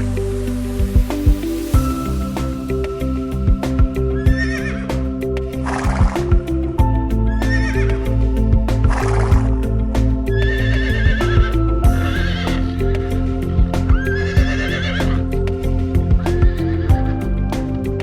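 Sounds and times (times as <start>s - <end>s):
background music with beat: 0.0s - 18.0s.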